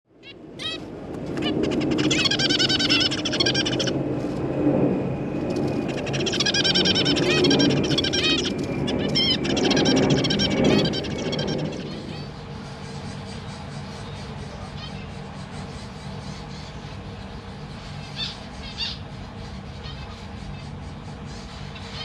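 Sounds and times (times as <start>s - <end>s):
zebra finches calling: 0.1s - 4.0s, 5.6s - 22.0s.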